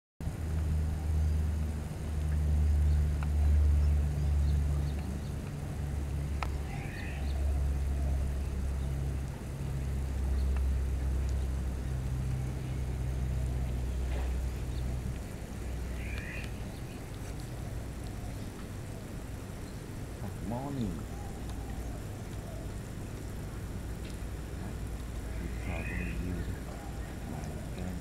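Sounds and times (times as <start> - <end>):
low hum: 0.2 - 28.0.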